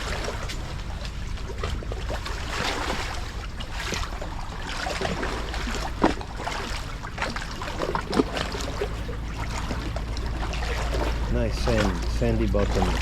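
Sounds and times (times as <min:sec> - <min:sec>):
sea water splashing and lapping: 0:00.0 - 0:13.0
steady low rumble: 0:00.0 - 0:13.0.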